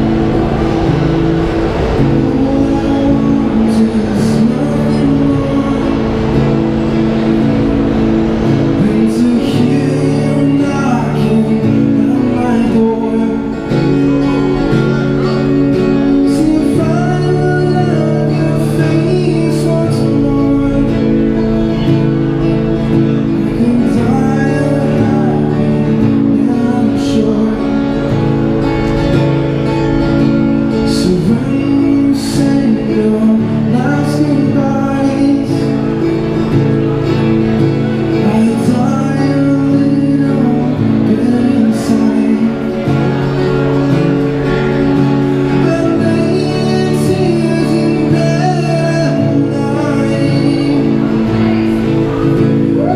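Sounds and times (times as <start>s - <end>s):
person singing: 0.0s - 29.0s, 29.6s - 52.9s
amplified acoustic guitar: 0.0s - 52.9s.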